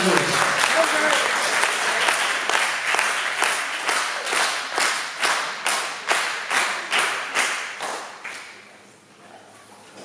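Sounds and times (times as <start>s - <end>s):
spectators clapping in unison: 0.0s - 8.7s.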